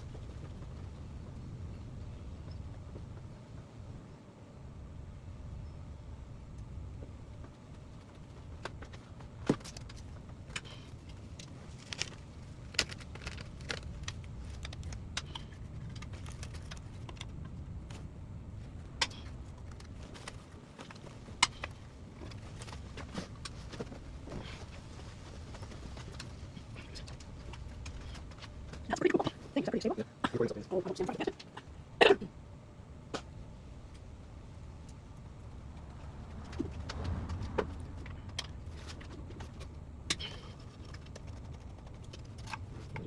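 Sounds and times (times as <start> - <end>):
steady low rumble: 0.0 - 43.0.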